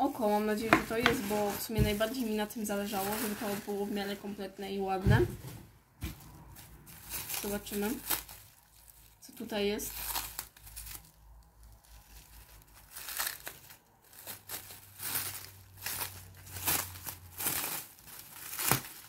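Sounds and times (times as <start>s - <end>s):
bubble wrap crinkling: 0.0s - 4.6s, 6.0s - 19.0s.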